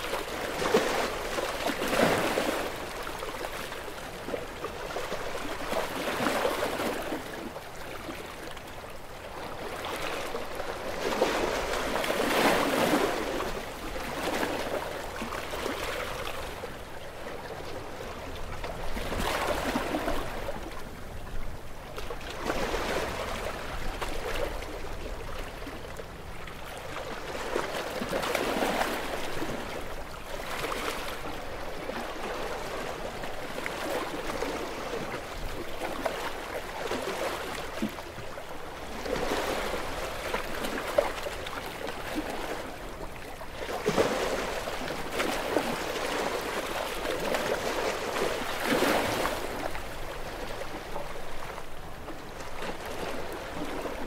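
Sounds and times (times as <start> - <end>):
small ocean waves lapping: 0.0 - 54.0.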